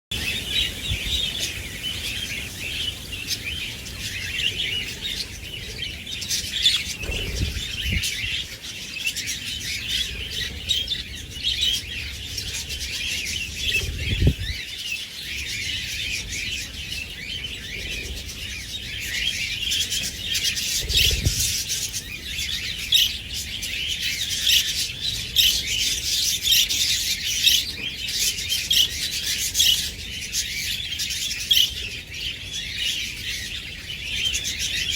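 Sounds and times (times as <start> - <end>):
budgies chirping and chattering: 0.1 - 34.9.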